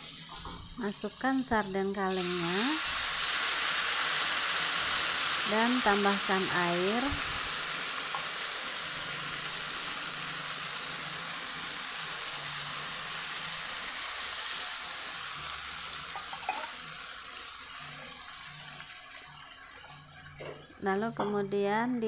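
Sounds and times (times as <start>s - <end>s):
hissing sizzle: 0.0s - 21.0s.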